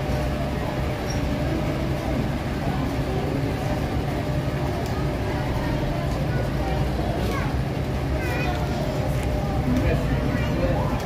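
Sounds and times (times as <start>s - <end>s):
metro station rumble and hum: 0.0s - 11.0s.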